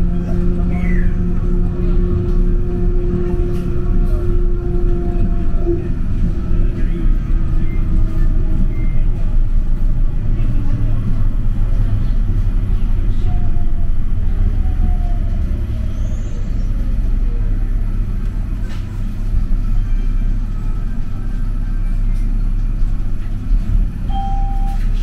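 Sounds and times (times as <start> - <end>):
light rail car low rumble: 0.0 - 25.0.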